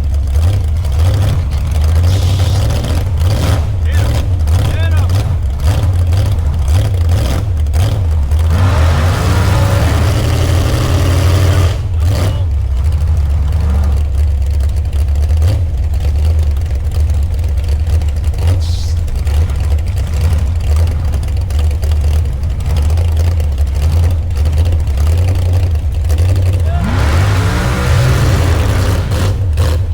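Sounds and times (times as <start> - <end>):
truck engine droning: 0.0 - 29.9.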